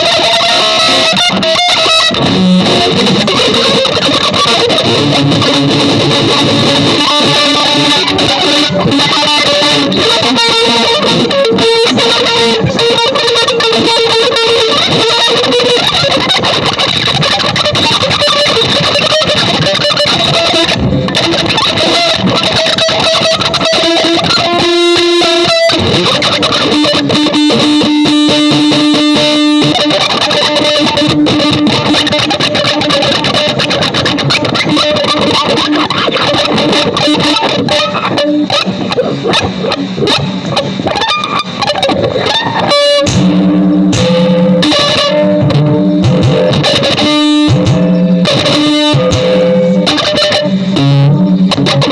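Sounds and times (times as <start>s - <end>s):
distorted electric guitar: 0.0s - 51.9s
experimental music noisy wash: 0.0s - 51.9s.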